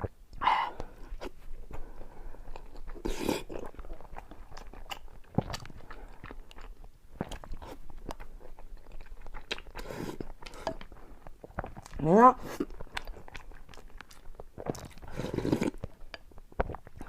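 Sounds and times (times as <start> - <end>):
wet chewing with smacking clicks: 2.4 - 12.0, 12.6 - 17.0.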